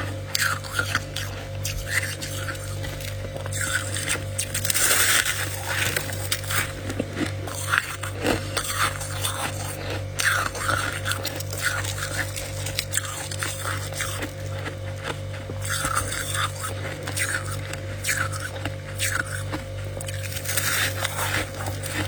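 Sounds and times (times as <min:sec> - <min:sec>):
frost crunching: 0:00.0 - 0:22.0
steady low hum: 0:00.0 - 0:22.0.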